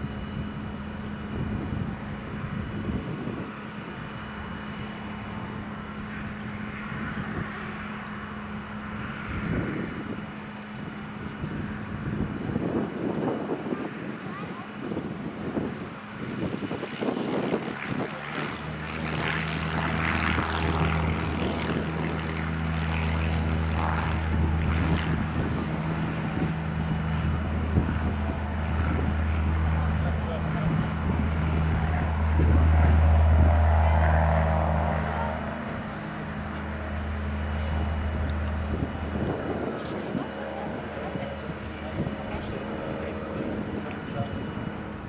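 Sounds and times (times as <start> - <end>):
airplane propeller engine drone: 0.0 - 45.0.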